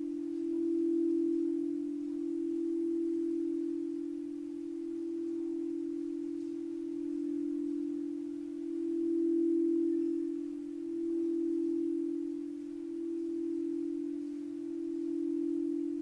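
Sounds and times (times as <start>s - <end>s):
singing bowl ringing tone: 0.0s - 16.0s.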